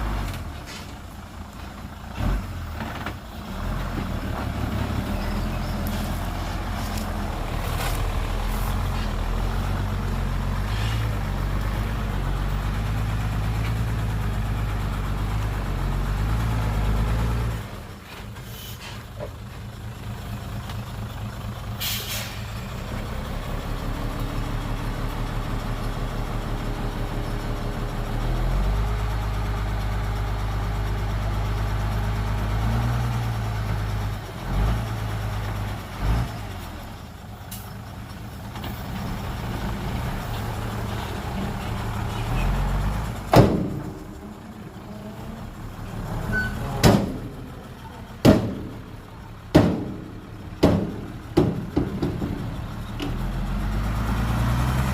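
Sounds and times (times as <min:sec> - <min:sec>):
truck diesel engine running: 0:00.0 - 0:54.9.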